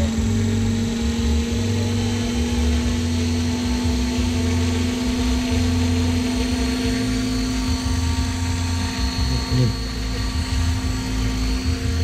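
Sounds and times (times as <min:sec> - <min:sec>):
model helicopter motor whine: 0:00.0 - 0:12.0.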